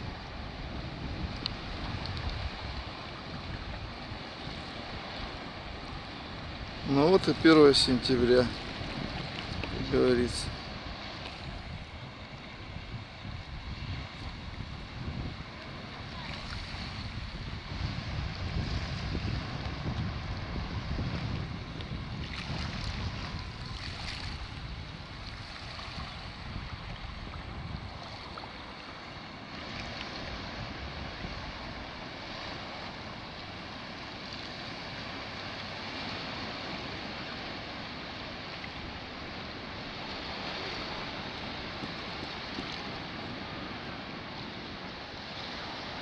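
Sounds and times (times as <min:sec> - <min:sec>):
waves washing onto beach: 0:00.0 - 0:46.0
wind rumbling on microphone: 0:00.0 - 0:46.0.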